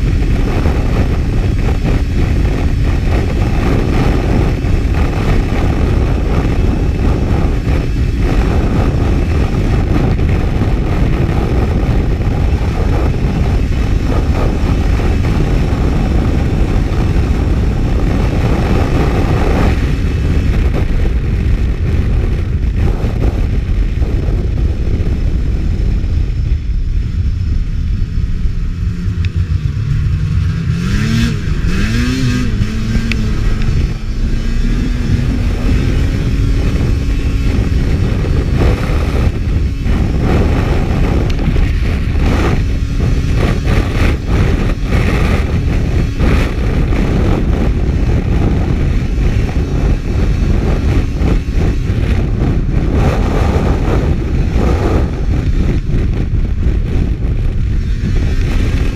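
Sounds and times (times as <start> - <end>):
snowmobile engine revving: 0.0 - 26.2, 27.6 - 58.9.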